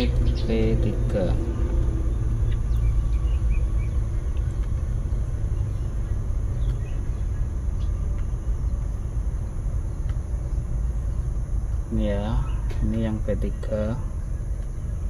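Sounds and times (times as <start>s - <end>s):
truck cab rumble: 0.0s - 15.0s.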